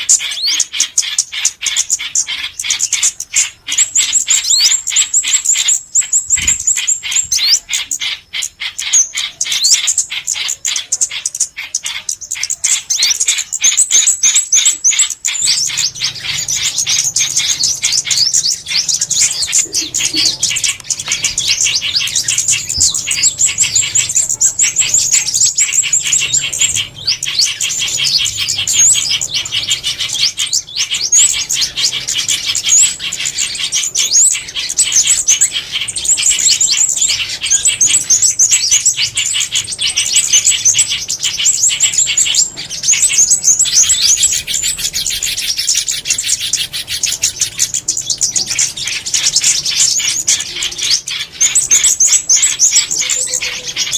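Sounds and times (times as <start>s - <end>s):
recorded songbirds chirping: 0.0s - 53.9s.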